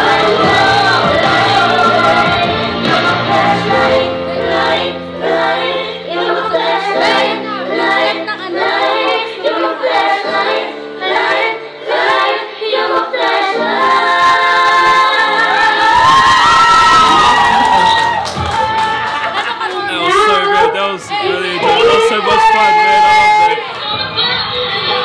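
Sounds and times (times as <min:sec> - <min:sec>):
women singing together: 0:00.0 - 0:25.0.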